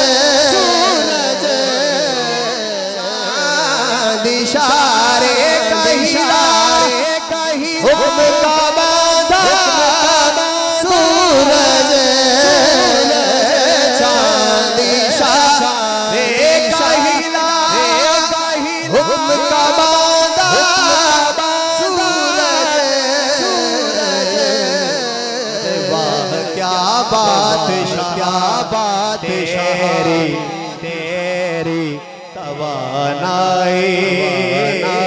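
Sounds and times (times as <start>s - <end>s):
men singing devotional song: 0.0s - 35.0s.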